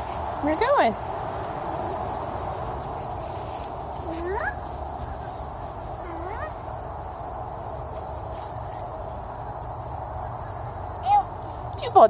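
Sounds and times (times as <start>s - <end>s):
insect drone: 0.0s - 12.0s
insects trilling: 0.0s - 12.0s.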